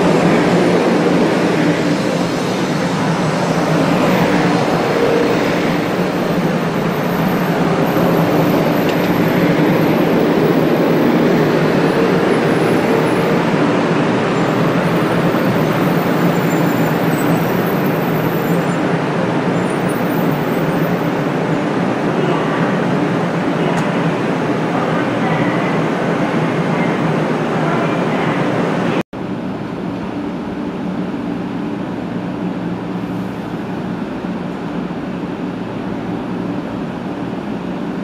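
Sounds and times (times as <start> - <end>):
train rumbling past: 0.0 - 38.0.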